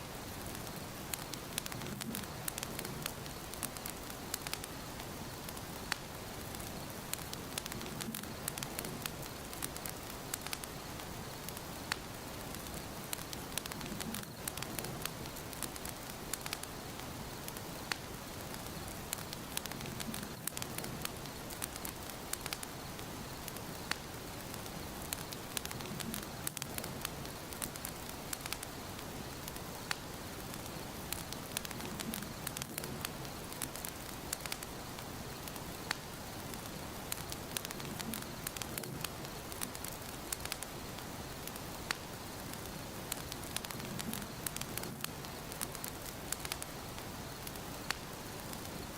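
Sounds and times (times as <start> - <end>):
fire hissing: 0.0 - 48.9
wood fire crackling and popping: 0.1 - 48.9.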